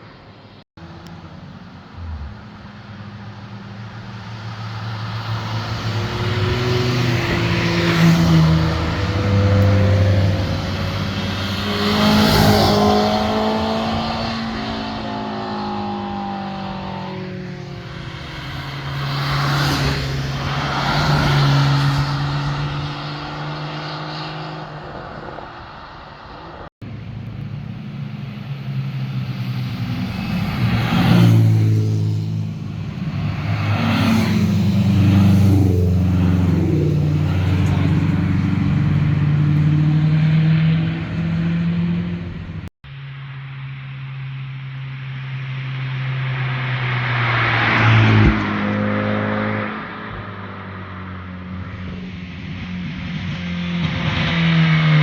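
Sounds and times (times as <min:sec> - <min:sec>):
cars revving past: 0:00.8 - 0:42.7, 0:45.1 - 0:55.0.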